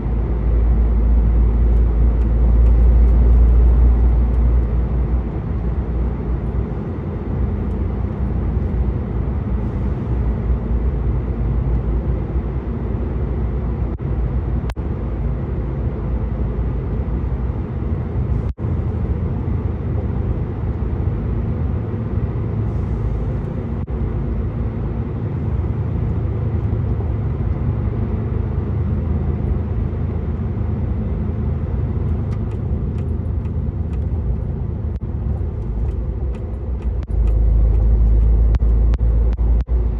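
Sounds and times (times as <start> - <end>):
truck engine rumble: 0.0 - 39.9
tyre road noise: 0.0 - 39.9.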